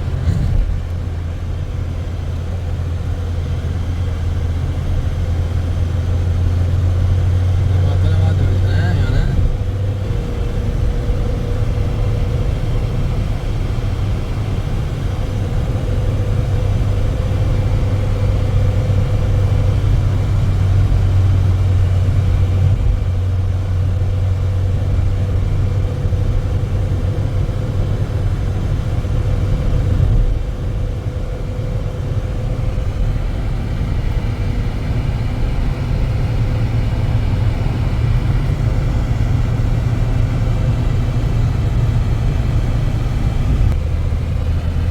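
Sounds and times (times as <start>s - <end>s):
vehicle engine rumbling: 0.0s - 44.9s.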